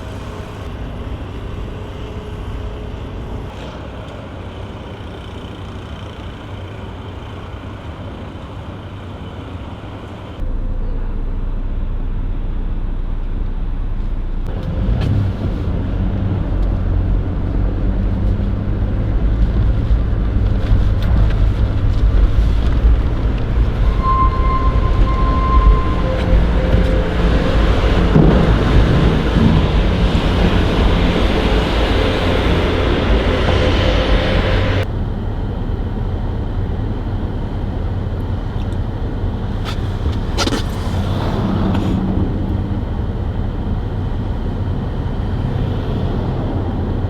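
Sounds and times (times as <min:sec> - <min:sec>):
vehicle engine and road rumble: 0:00.0 - 0:47.0.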